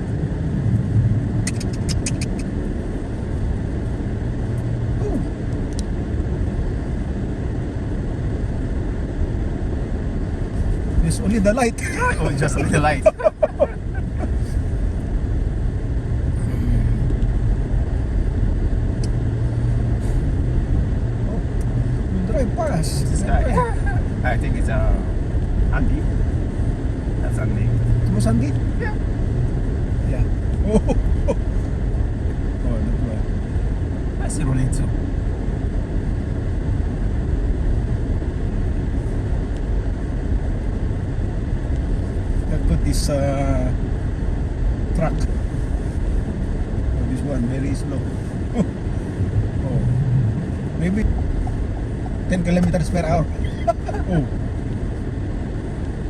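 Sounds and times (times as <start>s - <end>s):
road noise: 0.0s - 56.0s
vehicle engine drone from inside: 0.0s - 56.0s
wind noise: 0.0s - 56.0s.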